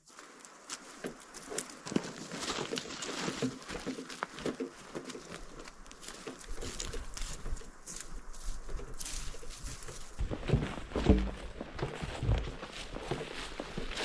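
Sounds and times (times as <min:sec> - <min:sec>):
footsteps through undergrowth: 0:00.0 - 0:14.0
vegetation rustling: 0:00.0 - 0:14.0.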